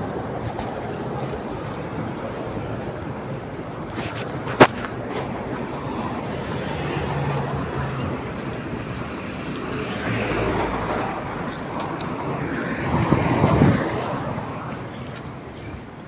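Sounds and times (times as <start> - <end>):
passing cars: 0.0 - 16.0.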